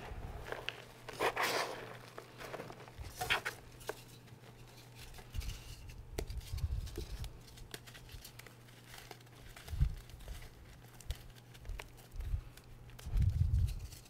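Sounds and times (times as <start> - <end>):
chalk crunching and crackling: 0.0 - 14.0.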